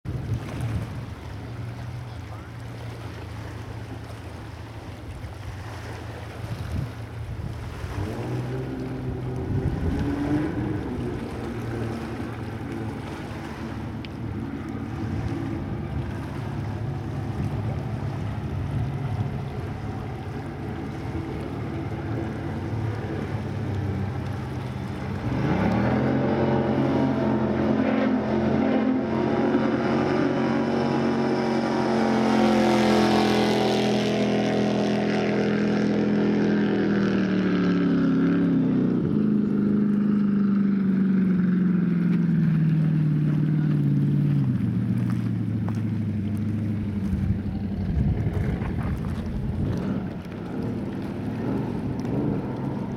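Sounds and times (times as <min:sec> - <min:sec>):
supercharged boat engine running: 0:00.0 - 0:52.9.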